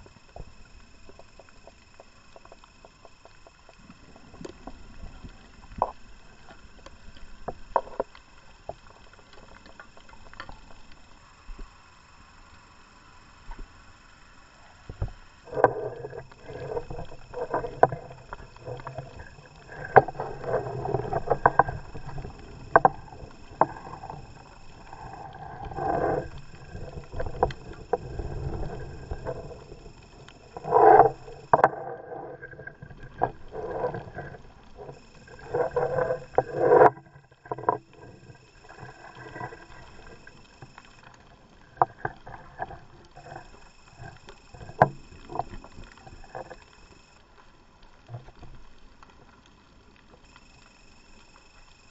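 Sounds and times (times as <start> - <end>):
low underwater rumble: 0.0 - 51.9.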